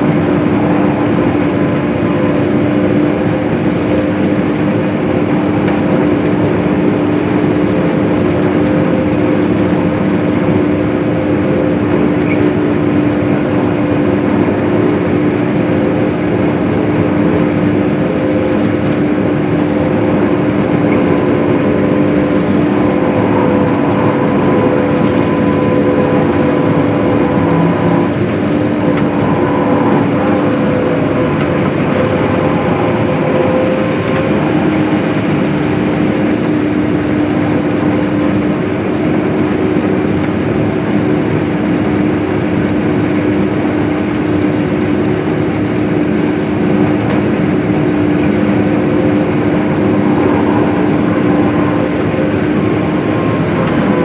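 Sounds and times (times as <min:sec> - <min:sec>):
hay swather engine drone: 0:00.0 - 0:54.0.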